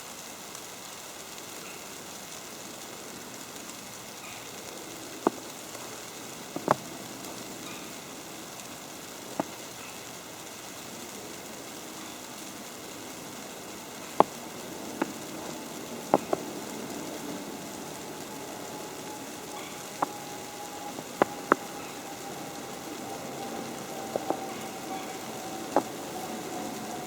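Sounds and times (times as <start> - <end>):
snow hissing on an umbrella: 0.0 - 27.0
sharp ticks: 2.7 - 27.0.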